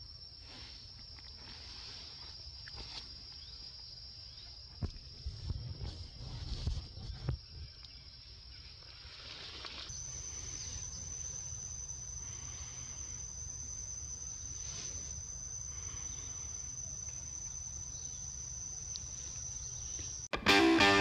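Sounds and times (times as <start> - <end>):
insect chorus buzzing: 0.0 - 21.0.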